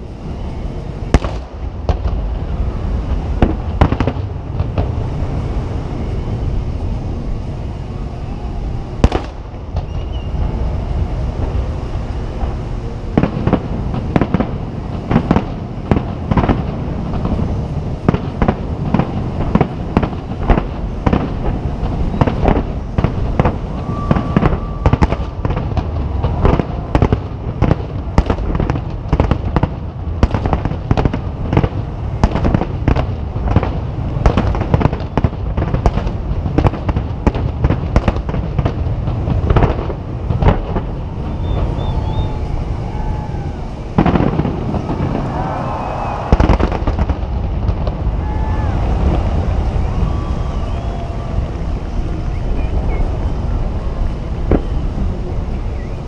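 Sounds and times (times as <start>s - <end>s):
low rumble: 0.0s - 56.0s.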